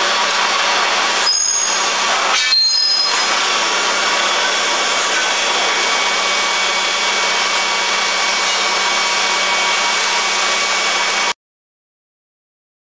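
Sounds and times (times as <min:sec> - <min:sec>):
faint high whining tones: 0:00.0 - 0:11.0
machinery hissing: 0:00.0 - 0:11.4.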